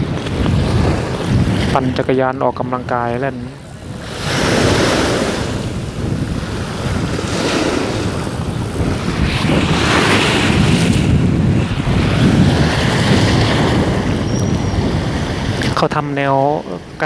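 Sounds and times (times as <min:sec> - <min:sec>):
waves washing against rocks: 0:00.0 - 0:17.0
wind blowing across microphone: 0:00.0 - 0:17.0.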